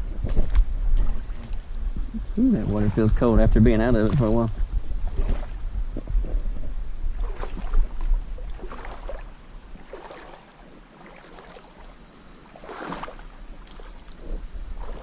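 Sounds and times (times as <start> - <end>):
wind rumble on microphone: 0.0 - 10.1, 12.7 - 15.0
creek water splashing: 0.4 - 6.4, 7.0 - 15.0.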